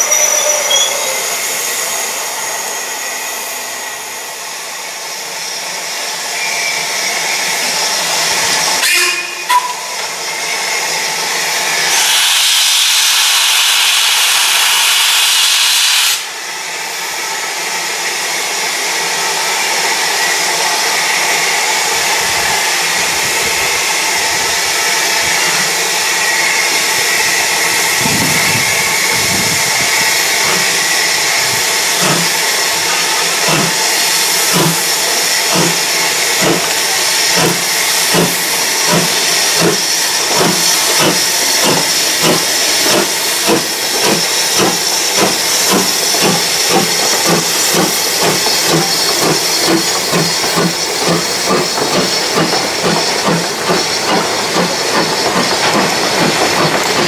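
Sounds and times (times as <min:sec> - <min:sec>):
steam hissing: 0:00.0 - 0:57.0
steam locomotive chuffs: 0:00.0 - 0:57.0.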